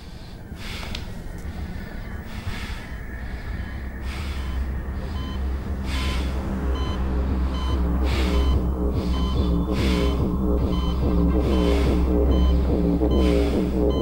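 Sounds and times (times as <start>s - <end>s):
breath-like whooshing: 0.0s - 14.0s
low drone: 0.0s - 14.0s.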